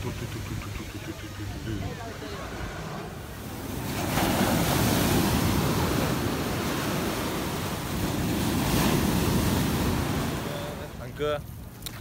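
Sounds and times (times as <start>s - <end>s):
sea surf breaking: 0.0s - 11.2s.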